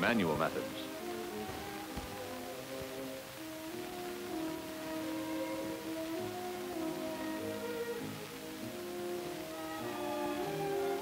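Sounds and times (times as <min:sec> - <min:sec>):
film music with long held notes: 0:00.0 - 0:11.0.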